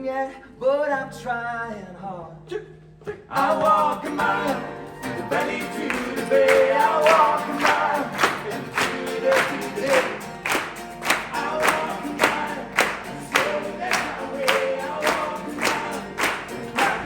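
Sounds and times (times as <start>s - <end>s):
several voices singing held notes: 3.2s - 17.0s.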